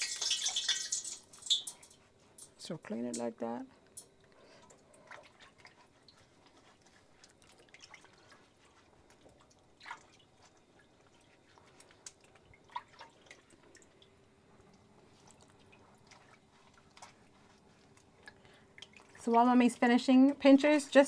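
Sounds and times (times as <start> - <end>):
water dripping and splashing: 0.0 - 21.0.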